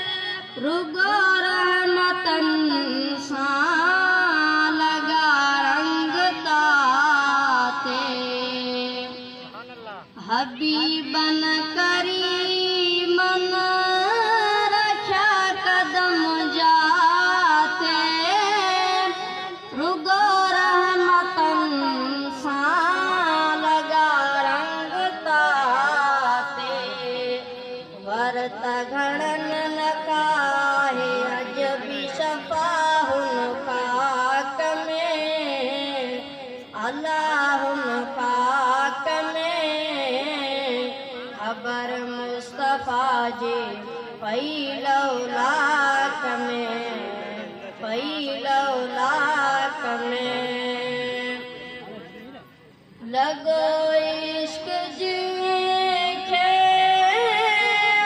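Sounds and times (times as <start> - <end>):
boy singing a devotional song: 0.0 - 58.0.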